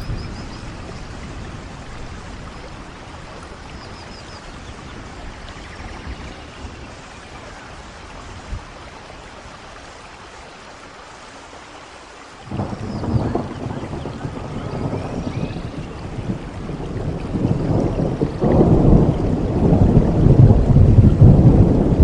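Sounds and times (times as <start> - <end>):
thunder rumbling: 0.0 - 9.0, 12.5 - 22.0
steady rainfall: 0.0 - 22.0.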